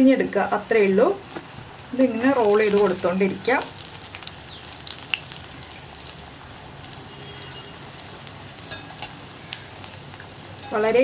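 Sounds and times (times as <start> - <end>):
hot oil sizzling and popping: 0.0 - 11.0.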